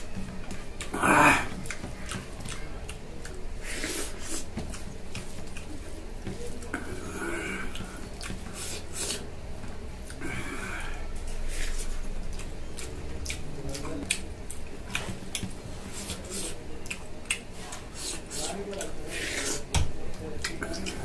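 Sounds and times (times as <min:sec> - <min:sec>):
fingers squishing food: 0:00.0 - 0:21.0.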